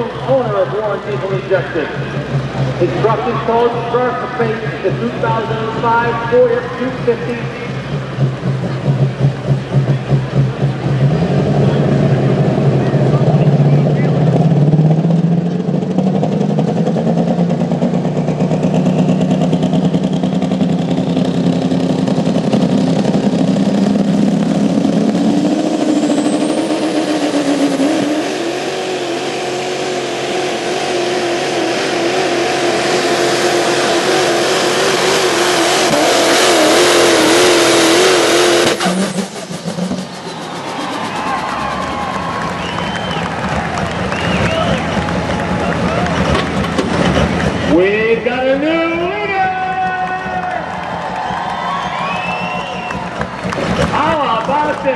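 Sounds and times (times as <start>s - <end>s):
diesel truck engine at full throttle: 0.0s - 54.9s.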